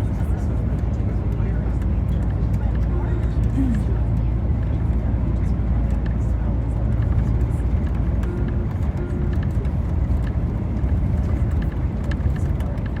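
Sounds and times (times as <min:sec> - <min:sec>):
coach road and engine rumble: 0:00.0 - 0:13.0.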